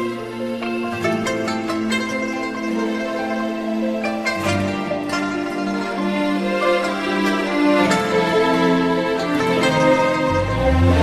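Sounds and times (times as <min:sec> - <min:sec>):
slow ballad with plucked strings: 0:00.0 - 0:11.0.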